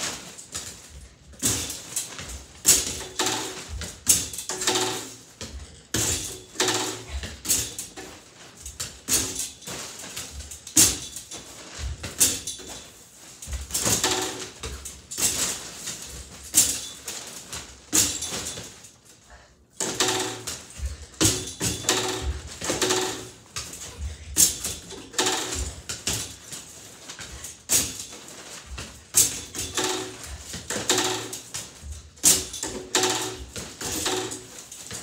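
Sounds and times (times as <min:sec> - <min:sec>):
mini basketballs knocking backboard: 0:00.0 - 0:18.8, 0:19.8 - 0:35.0.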